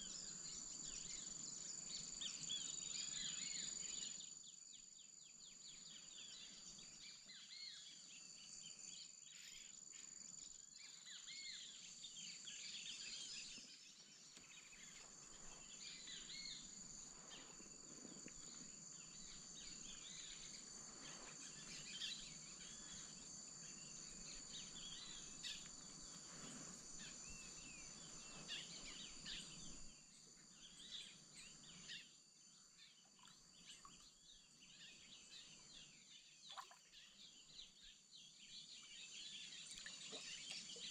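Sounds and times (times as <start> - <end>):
bird calls and chirps: 0.0 - 40.9
high insect drone: 0.0 - 40.9.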